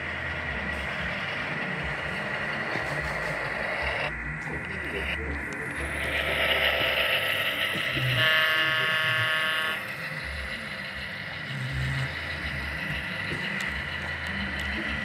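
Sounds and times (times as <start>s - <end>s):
model train motor and wheels: 0.0s - 15.0s
steady high tone: 0.0s - 15.0s.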